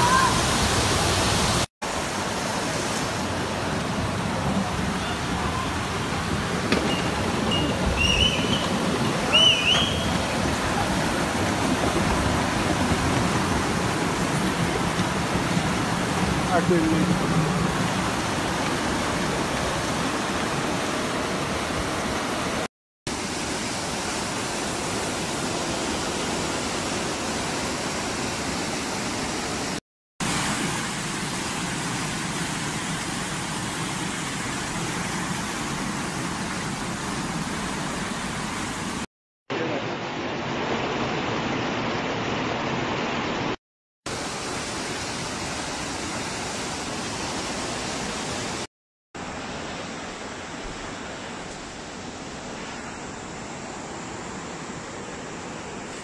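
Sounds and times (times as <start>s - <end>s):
flood water rushing: 0.0s - 56.0s.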